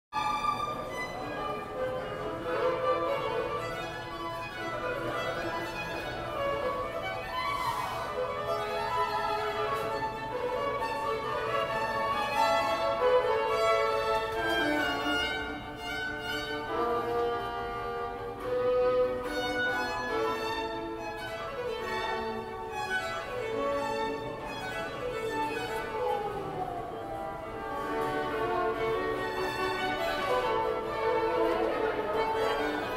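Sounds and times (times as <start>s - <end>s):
bowed violins playing melody: 0.2s - 32.9s.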